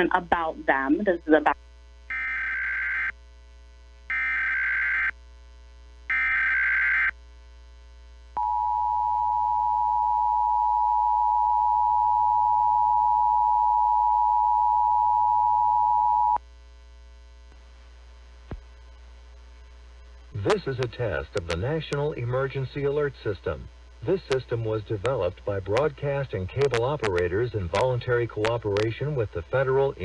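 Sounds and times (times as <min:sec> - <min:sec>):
low steady hum: 0:00.0 - 0:04.6, 0:07.2 - 0:30.0.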